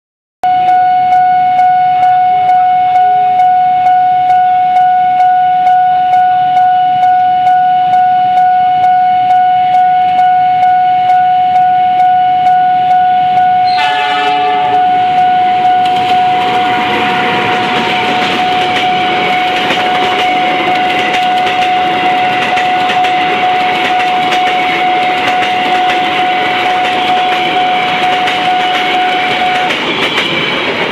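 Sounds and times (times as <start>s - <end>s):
approaching train: 0.5s - 30.9s.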